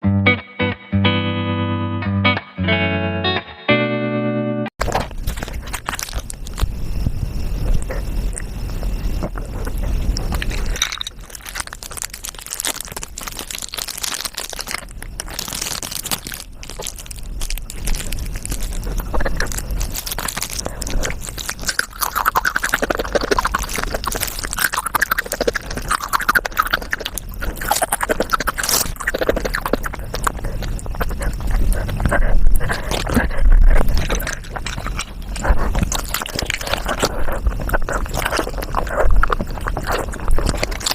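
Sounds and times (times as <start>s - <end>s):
sped-up crunching and chewing: 4.8s - 40.9s.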